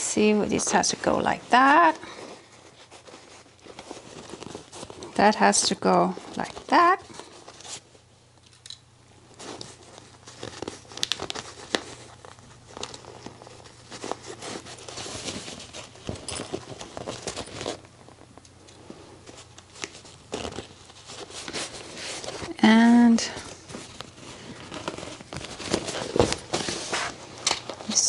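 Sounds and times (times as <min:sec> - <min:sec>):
fabric rustling and crinkling: 0:00.0 - 0:08.4, 0:09.1 - 0:28.0.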